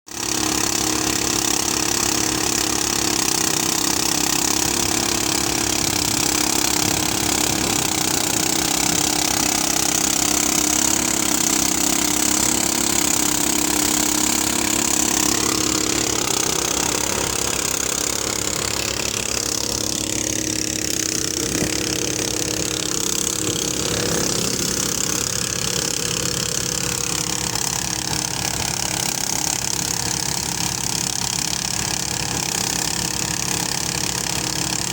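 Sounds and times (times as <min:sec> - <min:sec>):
threshing machine running: 0:00.1 - 0:34.9.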